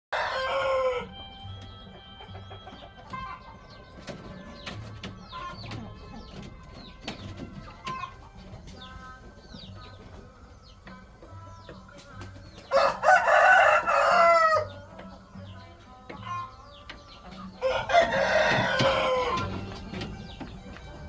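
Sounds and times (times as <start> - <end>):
chickens clucking: 0.1 - 21.0
soft music with pulsing beat: 0.2 - 21.0.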